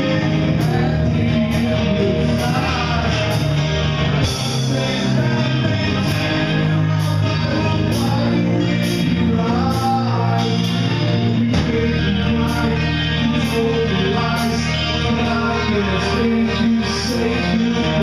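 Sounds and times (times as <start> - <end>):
bass guitar: 0.0 - 18.0
distorted electric guitar: 0.0 - 18.0
drums and cymbals: 0.0 - 18.0
man singing: 0.0 - 18.0.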